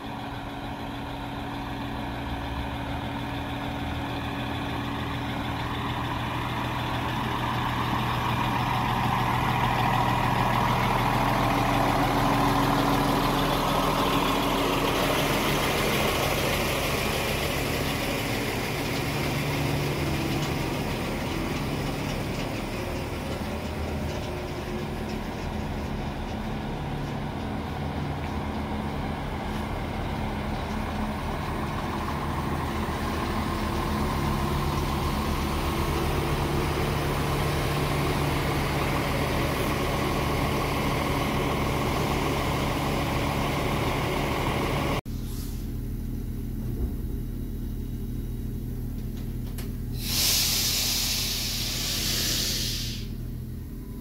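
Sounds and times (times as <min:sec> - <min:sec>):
diesel railbus engine idling: 0:00.0 - 0:54.0.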